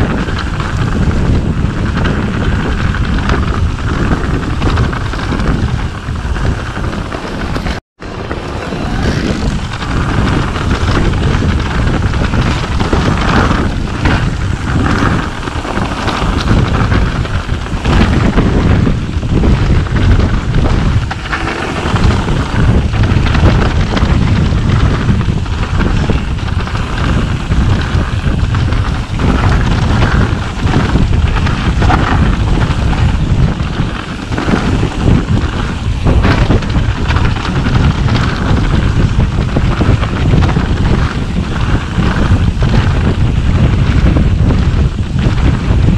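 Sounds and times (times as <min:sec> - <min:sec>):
mountain bike rumble and rattle: 0:00.0 - 0:45.9
wind over microphone: 0:00.0 - 0:45.9.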